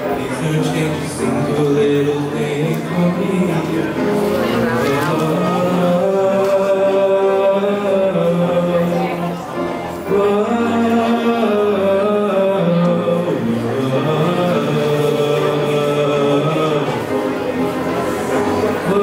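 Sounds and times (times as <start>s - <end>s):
backing music: 0.0s - 19.0s
young man singing long notes: 0.0s - 19.0s.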